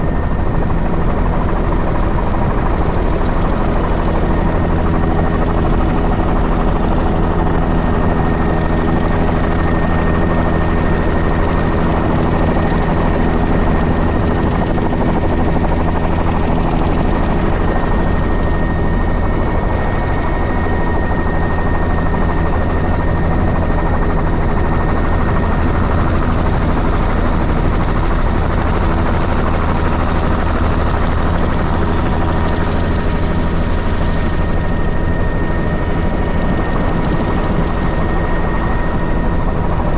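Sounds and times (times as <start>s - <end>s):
constant high whine: 0.0s - 39.9s
helicopter engine and rotor drone: 0.0s - 39.9s.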